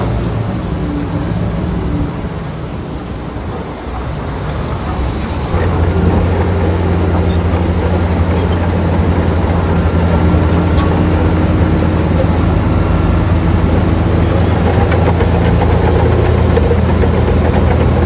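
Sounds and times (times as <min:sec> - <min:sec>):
heavy diesel engine droning: 0:00.0 - 0:18.0.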